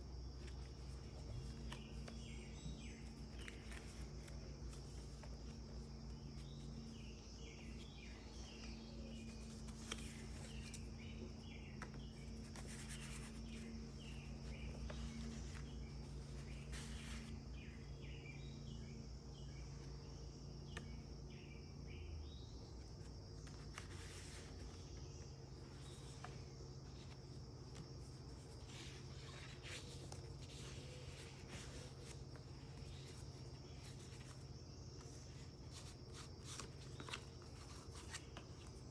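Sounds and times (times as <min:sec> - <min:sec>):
soft rustles: 0:00.0 - 0:17.8, 0:22.8 - 0:38.9
faint birds chirping: 0:00.0 - 0:38.9.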